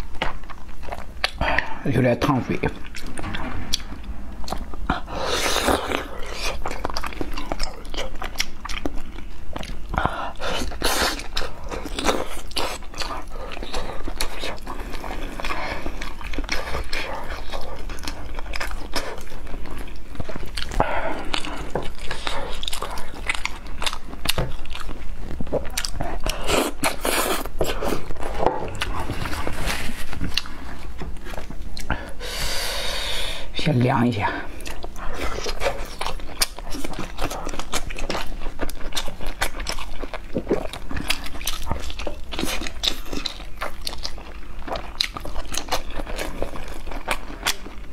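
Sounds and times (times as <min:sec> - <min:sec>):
chewing and biting meat: 0:00.0 - 0:32.2, 0:34.4 - 0:47.9.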